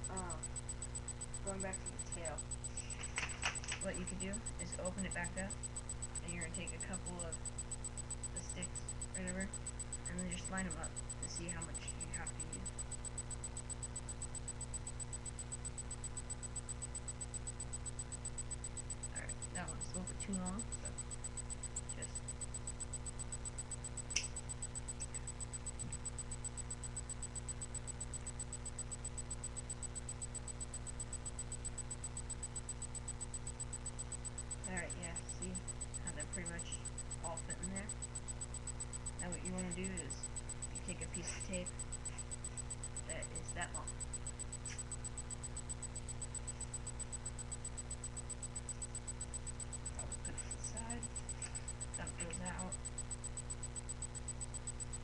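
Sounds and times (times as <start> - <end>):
fast high-pitched ticking: 0.0 - 55.0
microphone electrical hum and hiss: 0.0 - 55.0.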